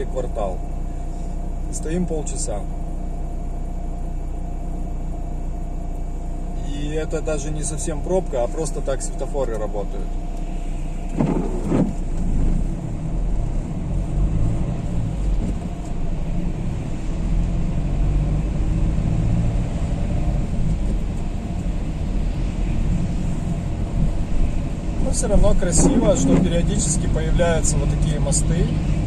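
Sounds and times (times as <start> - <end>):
car engine rumble inside cabin: 0.0 - 29.0
road noise: 0.0 - 29.0.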